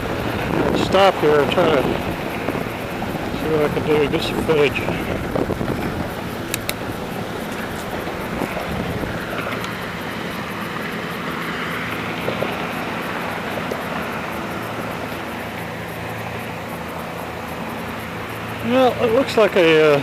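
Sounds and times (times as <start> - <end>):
passing vehicle: 0.0 - 20.0
steady low hum: 0.0 - 20.0.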